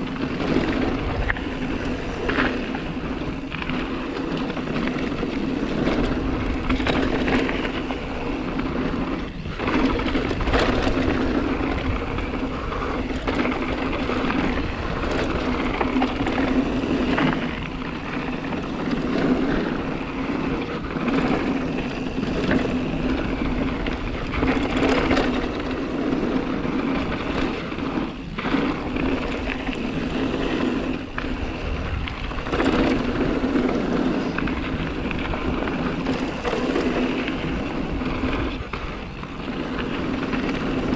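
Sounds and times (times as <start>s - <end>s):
bike rattling over bumps: 0.0s - 40.9s
tyres rolling on dirt: 0.0s - 40.9s
wind rush: 0.0s - 40.9s.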